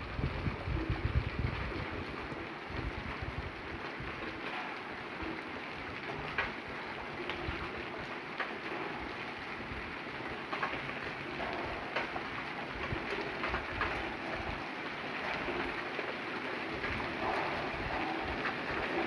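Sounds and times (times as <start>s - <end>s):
raindrop hits: 0.0s - 19.0s
steady rain falling: 0.0s - 19.0s.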